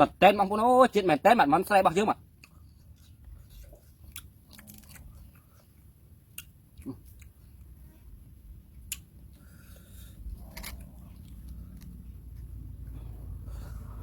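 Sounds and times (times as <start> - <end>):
person chewing: 2.0 - 13.4
low background rumble: 2.2 - 14.0.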